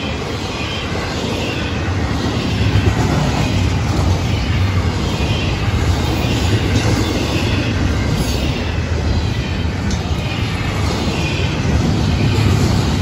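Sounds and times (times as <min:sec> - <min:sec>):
train cars rumbling on rails: 0:00.0 - 0:13.0.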